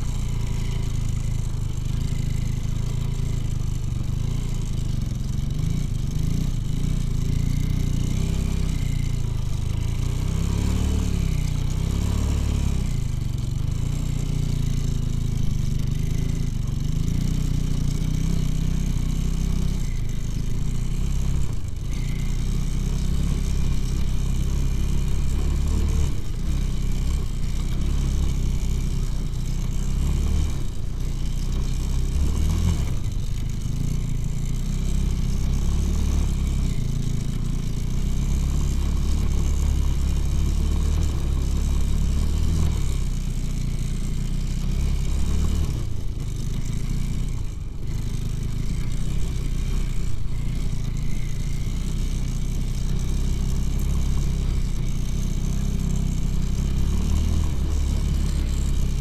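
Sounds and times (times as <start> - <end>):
motorcycle engine under load: 0.0 - 59.0.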